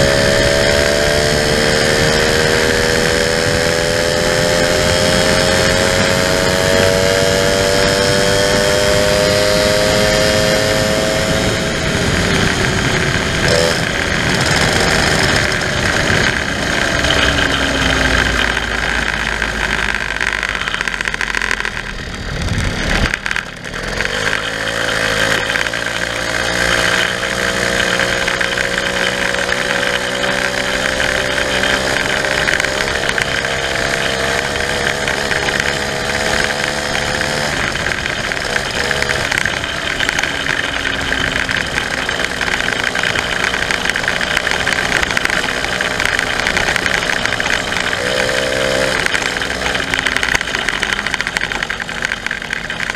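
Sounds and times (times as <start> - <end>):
two-stroke moped engine: 0.0 - 52.9.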